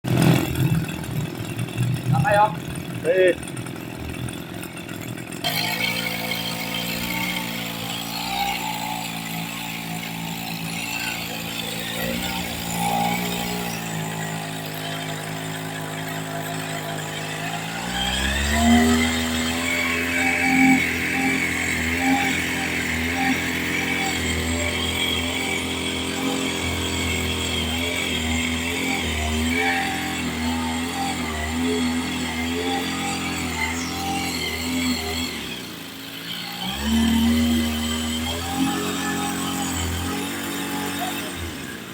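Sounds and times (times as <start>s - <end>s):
small sprayer engine running: 0.1s - 41.9s.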